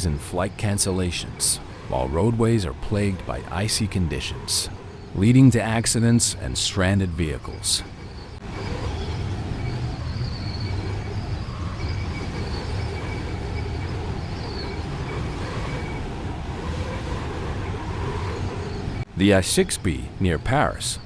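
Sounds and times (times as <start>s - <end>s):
vehicle rumble: 0.0s - 21.0s.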